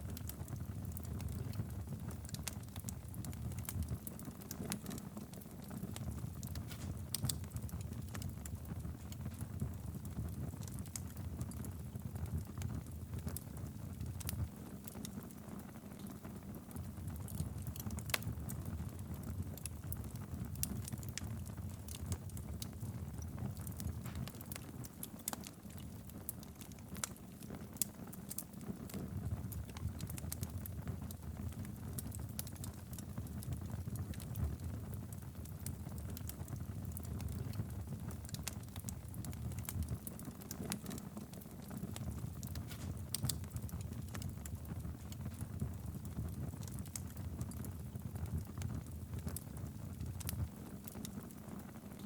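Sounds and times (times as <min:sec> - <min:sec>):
fire crackling and popping: 0:00.0 - 0:52.0
fire rumbling in fireplace: 0:00.0 - 0:52.0.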